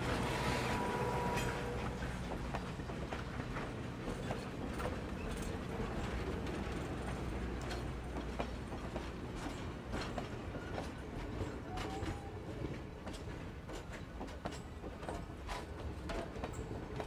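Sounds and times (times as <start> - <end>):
train rumbling by: 0.0 - 17.0
train wheels clicking on rail joints: 0.0 - 17.0.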